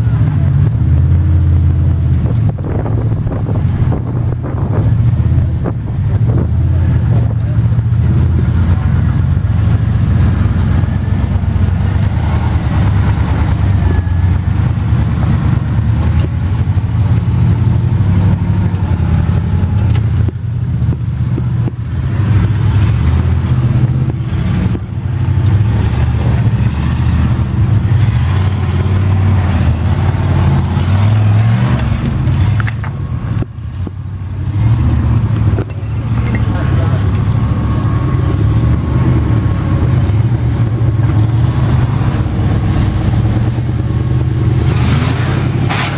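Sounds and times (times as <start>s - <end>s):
buggy engines droning: 0.0s - 45.9s.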